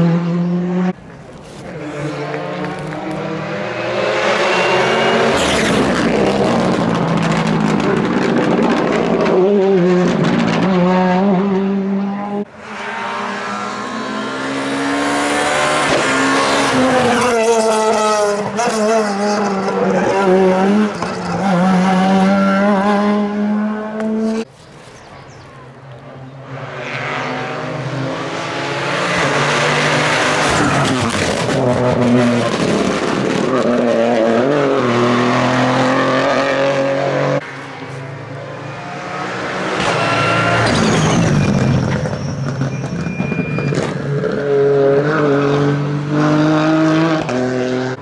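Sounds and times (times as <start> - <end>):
rally car engine revving: 0.0 - 24.5, 26.4 - 48.0.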